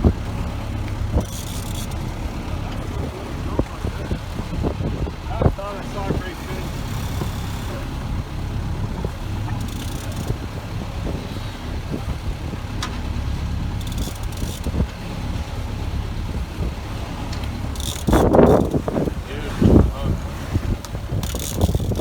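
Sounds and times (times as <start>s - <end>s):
boat engine running: 0.0s - 22.0s
water noise: 0.0s - 22.0s
wind: 0.0s - 22.0s.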